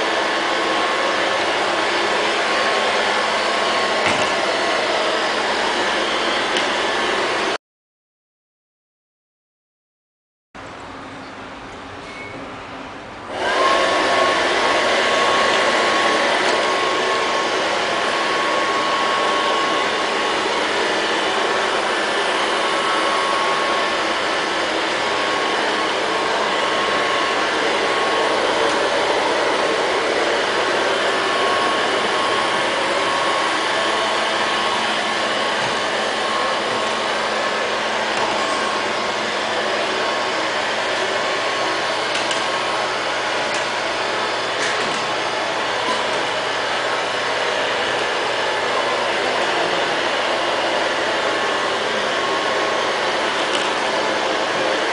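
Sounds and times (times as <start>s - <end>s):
robot vacuum cleaner running: 0.0s - 7.6s, 13.3s - 54.9s.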